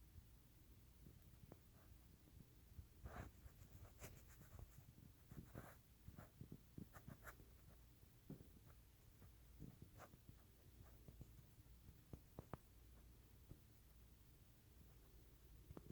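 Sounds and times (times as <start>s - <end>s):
faint scratching and tapping: 1.0s - 15.9s.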